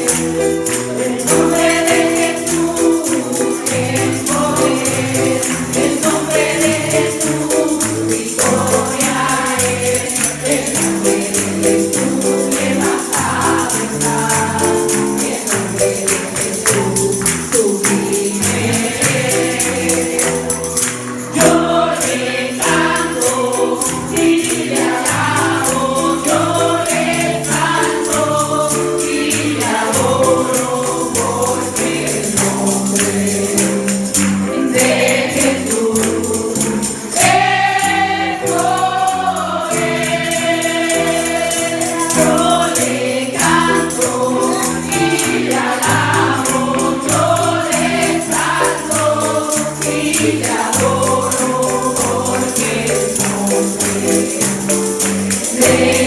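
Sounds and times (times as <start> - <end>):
instrumental backing: 0.0 - 56.0
tambourine beat: 0.0 - 56.0
voices singing together: 0.0 - 56.0.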